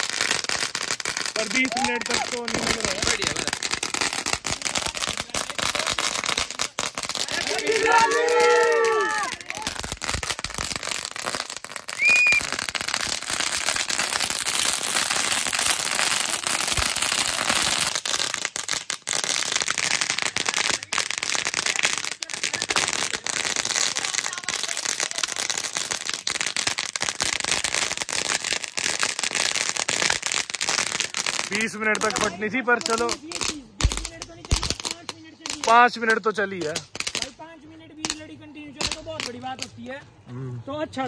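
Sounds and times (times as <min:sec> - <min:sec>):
firecracker crackling: 0:00.0 - 0:40.3.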